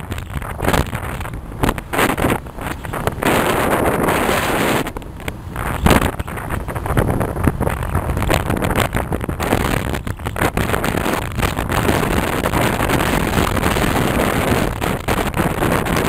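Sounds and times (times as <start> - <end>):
vehicle road noise: 0.0 - 16.0
wind buffeting microphone: 0.0 - 16.0.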